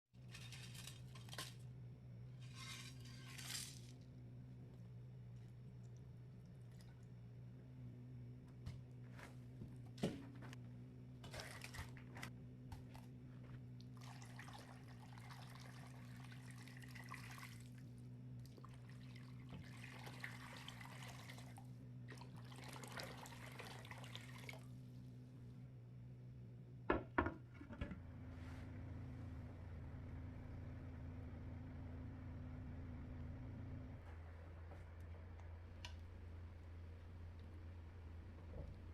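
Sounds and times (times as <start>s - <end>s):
low steady hum: 0.2s - 38.9s.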